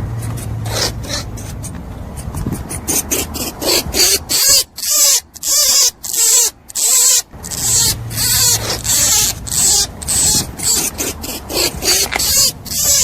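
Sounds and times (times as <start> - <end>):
rabbit squeaky calls: 0.3 - 13.0.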